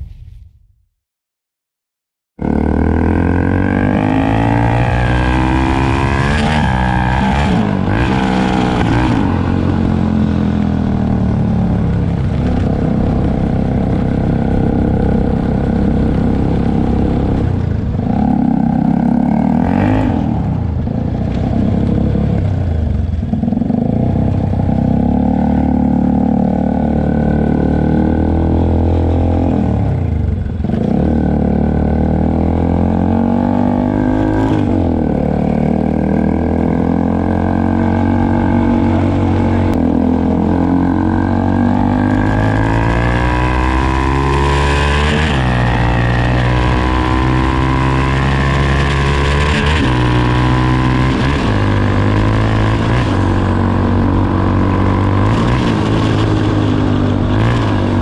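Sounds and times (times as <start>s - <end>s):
motorcycle engine revving: 2.4s - 58.0s.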